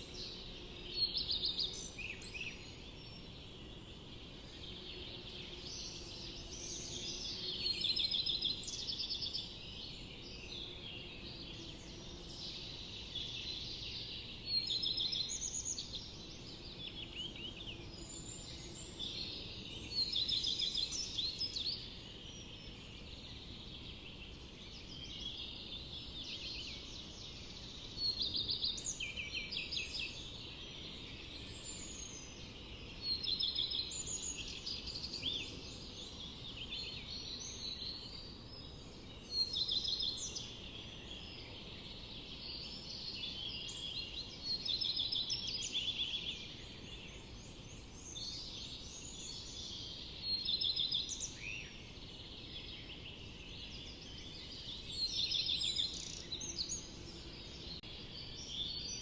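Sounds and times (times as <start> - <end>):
songbirds chorus: 0.0 - 59.0.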